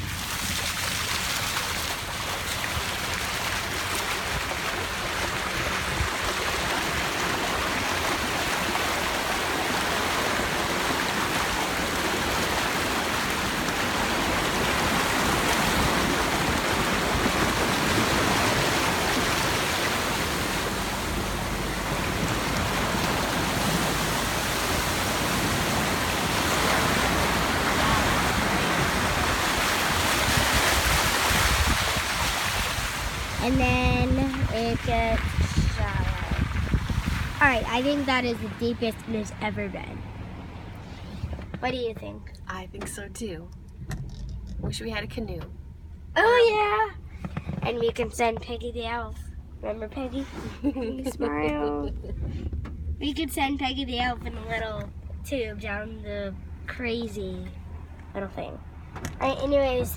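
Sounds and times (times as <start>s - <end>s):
floodwater rushing: 0.0s - 44.9s, 45.6s - 59.9s.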